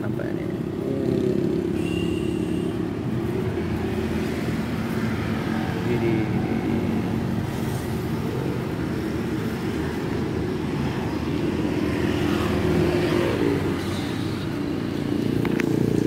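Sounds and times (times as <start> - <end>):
traffic engine hum: 0.0 - 16.0.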